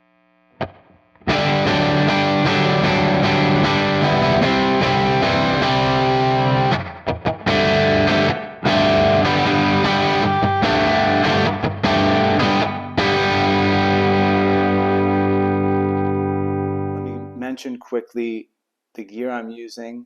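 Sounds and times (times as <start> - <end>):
electric guitar chords with reverb: 0.6 - 17.4.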